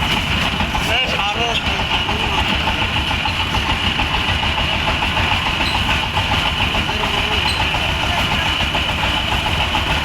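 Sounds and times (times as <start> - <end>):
vehicle engine rattling rumble: 0.0 - 10.0.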